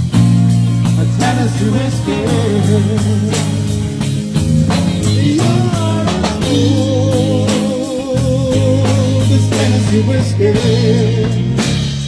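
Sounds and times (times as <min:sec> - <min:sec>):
drum kit: 0:00.0 - 0:12.0
electric guitar: 0:00.0 - 0:12.0
person singing: 0:01.0 - 0:03.9, 0:05.1 - 0:11.8.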